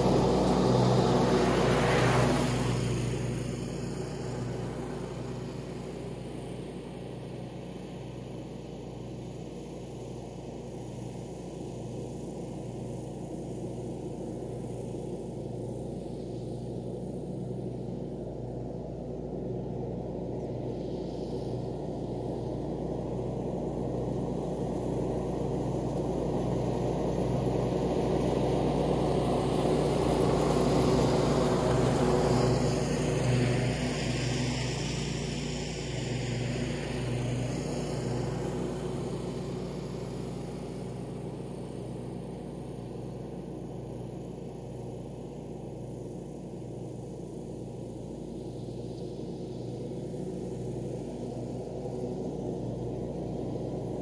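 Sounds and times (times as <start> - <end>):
ride-on lawn mower engine: 0.0 - 54.0.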